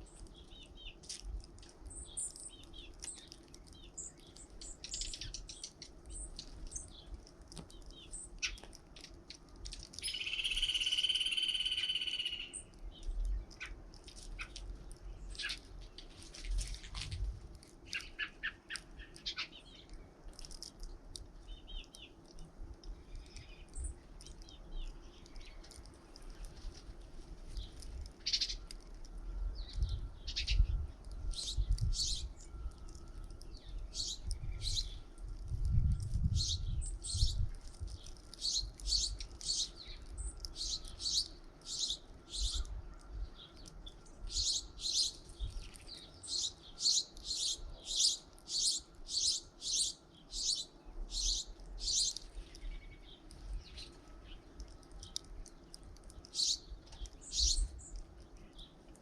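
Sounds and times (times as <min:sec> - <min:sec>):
small songbirds chirping: 0:00.0 - 0:59.0.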